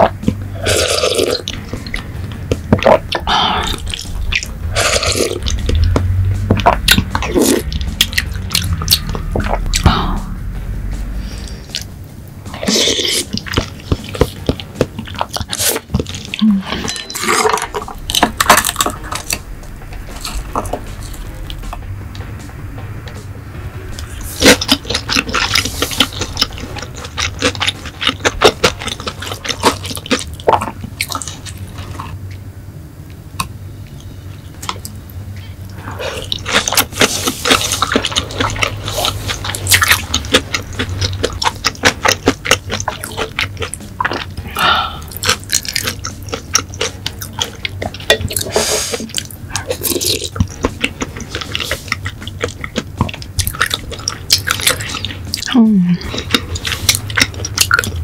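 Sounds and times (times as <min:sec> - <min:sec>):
chewing and lip-smacking: 0:00.0 - 0:09.8, 0:11.3 - 0:11.9, 0:12.5 - 0:19.5, 0:24.0 - 0:32.5, 0:35.8 - 0:58.0.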